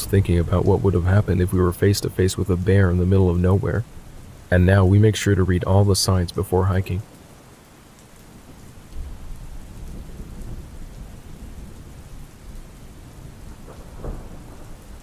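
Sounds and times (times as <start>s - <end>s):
thunder rumbling: 0.0s - 7.1s, 8.4s - 15.0s
steady rain: 0.0s - 15.0s.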